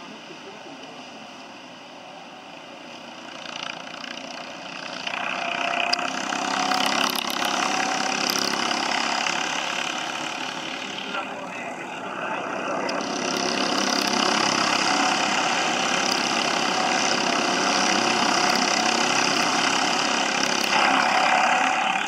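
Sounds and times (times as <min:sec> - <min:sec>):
go-kart engines: 0:00.0 - 0:22.0.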